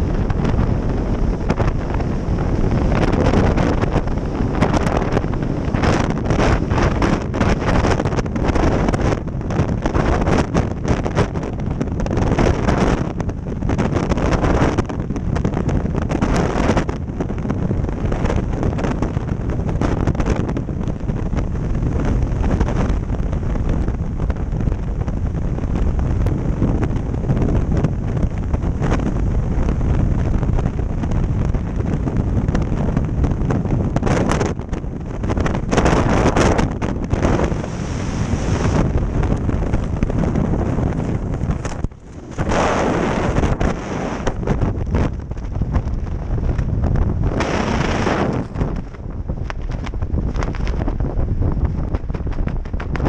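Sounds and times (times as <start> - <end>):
wind blasting over microphone: 0.0 - 53.0.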